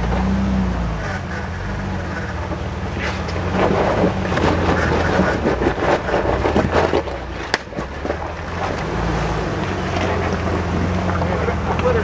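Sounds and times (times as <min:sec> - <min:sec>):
engine running at low revs: 0:00.0 - 0:12.0
tyres crunching on rock and gravel: 0:01.4 - 0:12.0.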